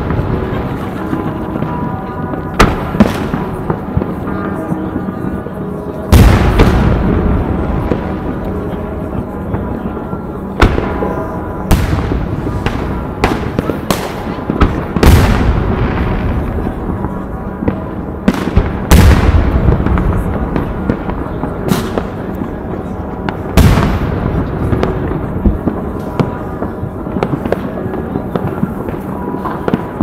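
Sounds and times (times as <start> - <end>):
echoing rumble: 0.0 - 30.0
fireworks bangs and crackles: 0.0 - 30.0.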